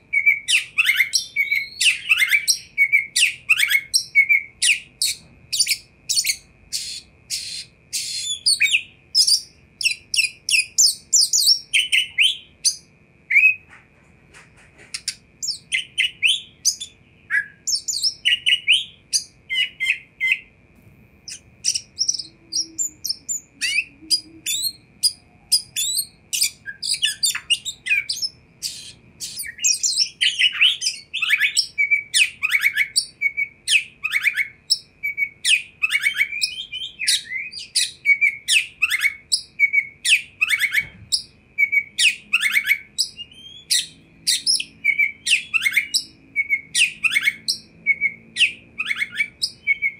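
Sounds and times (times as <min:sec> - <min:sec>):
magpie-robin singing: 0:00.0 - 0:13.8, 0:14.9 - 0:20.5, 0:21.2 - 0:49.9.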